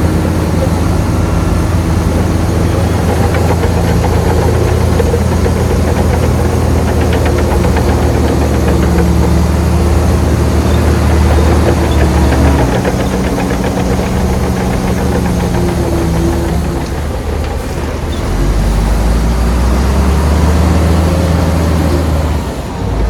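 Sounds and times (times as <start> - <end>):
light rapid rattle: 0.0 - 19.3
heavy diesel engine running: 0.0 - 23.0.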